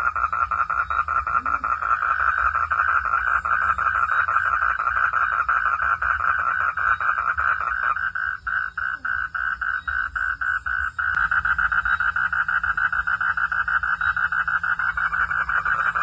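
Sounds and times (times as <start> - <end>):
frogs calling in pulses: 0.0 - 16.0.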